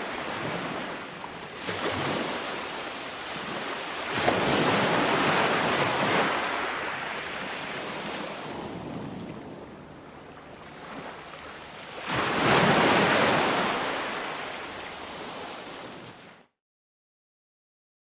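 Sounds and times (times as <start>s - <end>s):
ocean waves breaking on shore: 0.0s - 16.5s.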